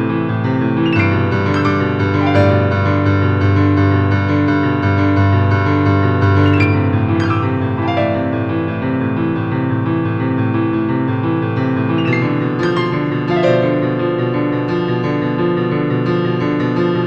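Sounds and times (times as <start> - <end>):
piano with held chords: 0.0 - 17.0.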